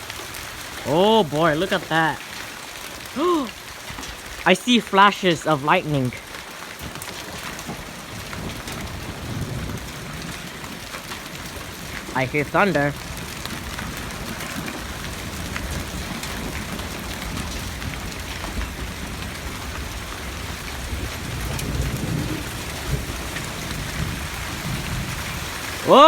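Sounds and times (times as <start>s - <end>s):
hailstones ticking: 0.0s - 26.0s
rain pelting down: 0.0s - 26.0s.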